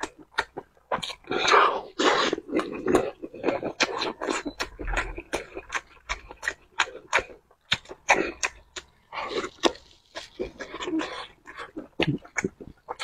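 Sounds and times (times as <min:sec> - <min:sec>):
close chewing with mouth smacks: 0:00.0 - 0:13.0
bite and slurp: 0:00.4 - 0:13.0.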